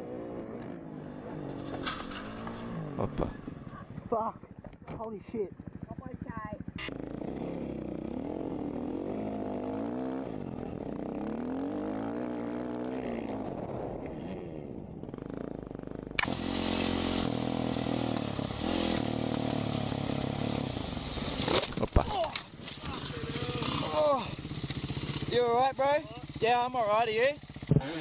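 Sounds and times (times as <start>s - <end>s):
motorcycle engine running steadily: 0.0s - 12.4s, 14.7s - 28.0s
motorcycle engine revving: 0.0s - 28.0s.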